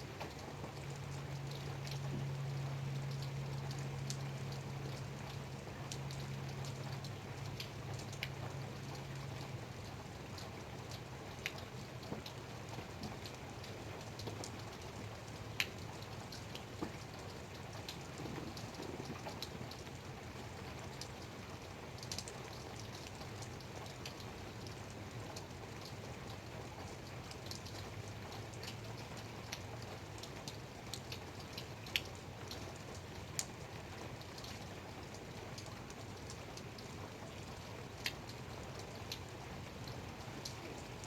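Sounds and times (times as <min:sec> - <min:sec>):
light rain falling: 0:00.0 - 0:41.0
raindrops ticking close by: 0:00.0 - 0:41.0.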